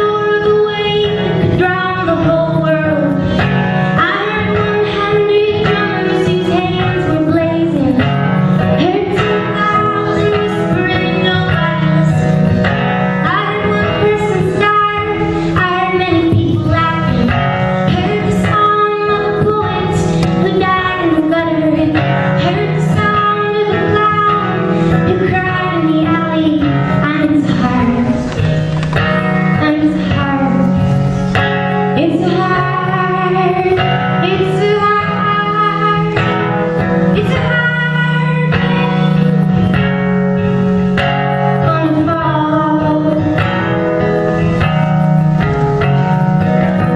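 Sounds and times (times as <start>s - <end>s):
woman singing folk song: 0.0s - 12.4s, 13.2s - 28.4s, 29.5s - 30.8s, 32.0s - 39.4s, 41.6s - 43.5s
plucked acoustic guitar: 0.0s - 46.9s.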